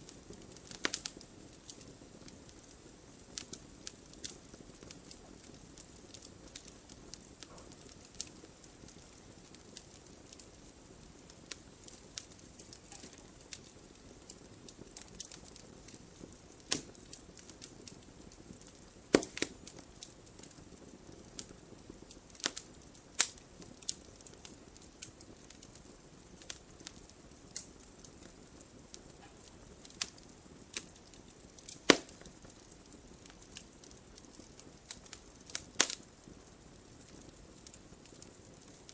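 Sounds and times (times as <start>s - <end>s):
soft rush of flame: 0.0s - 38.9s
wood fire crackling and popping: 0.0s - 38.9s.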